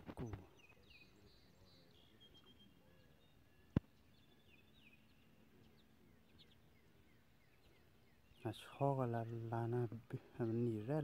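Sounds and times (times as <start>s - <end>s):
birdsong descending chirps: 0.4s - 11.0s.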